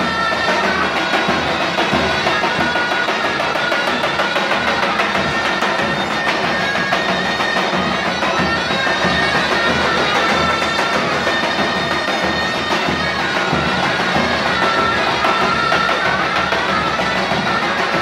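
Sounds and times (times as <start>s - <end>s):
large drums beating: 0.0s - 18.0s
reedy pipe melody: 0.0s - 18.0s.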